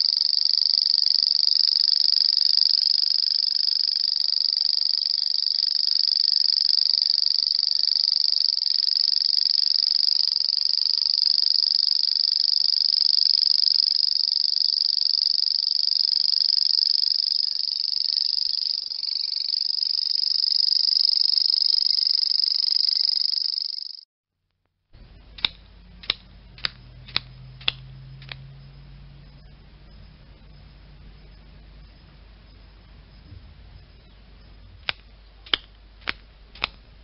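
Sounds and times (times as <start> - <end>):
grasshopper stridulating: 0.0 - 24.0, 25.4 - 37.0.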